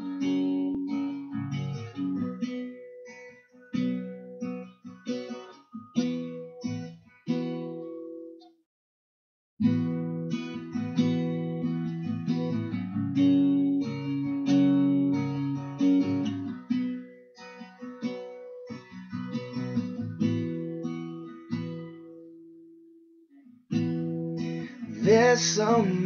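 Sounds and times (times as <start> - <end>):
guitar chords strummed: 0.0 - 8.5, 9.6 - 26.0.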